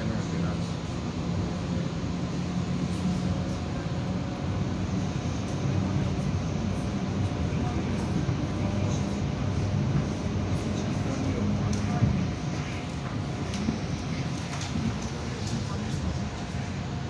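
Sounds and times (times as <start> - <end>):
train carriage running noise: 0.0 - 17.0.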